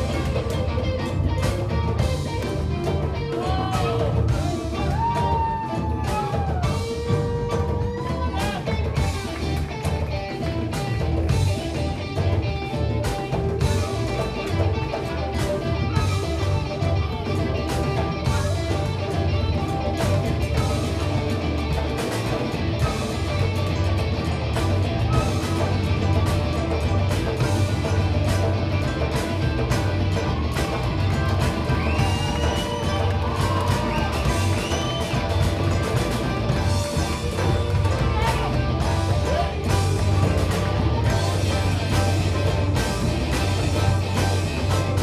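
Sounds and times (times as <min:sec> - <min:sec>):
blues band playing: 0:00.0 - 0:45.0
sliding lead guitar notes: 0:00.0 - 0:45.0.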